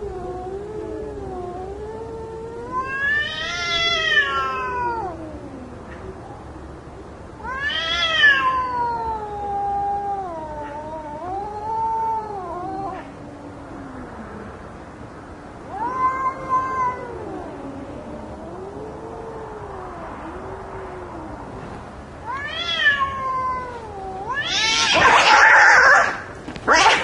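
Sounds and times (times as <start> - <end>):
cats yowling: 0.0 - 14.6, 15.4 - 27.0.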